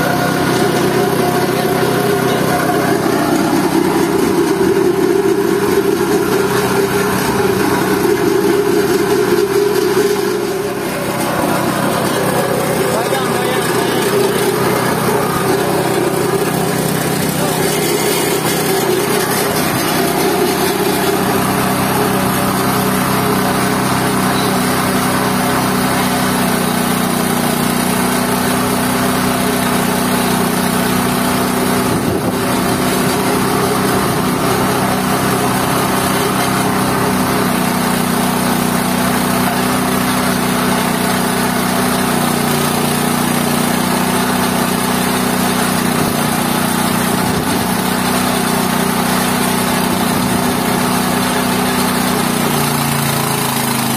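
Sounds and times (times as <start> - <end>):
machine grinding plant waste: 0.0 - 53.9.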